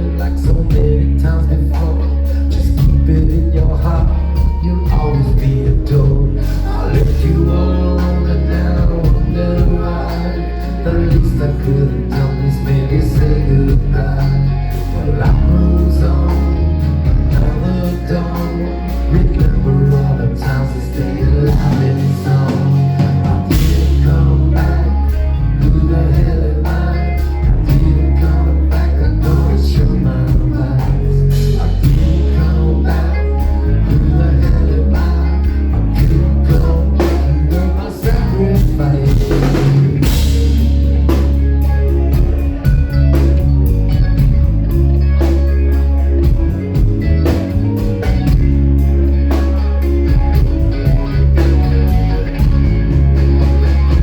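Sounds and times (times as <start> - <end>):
drum kit: 0.0 - 54.0
electric guitar: 0.0 - 54.0
heavy bass: 0.0 - 54.0.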